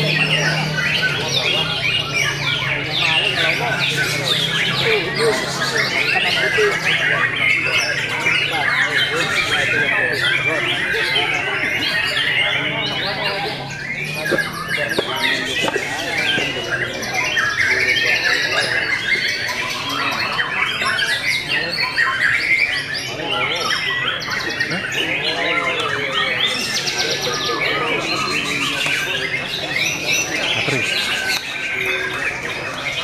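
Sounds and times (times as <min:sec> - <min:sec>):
birds singing in chorus: 0:00.0 - 0:33.0.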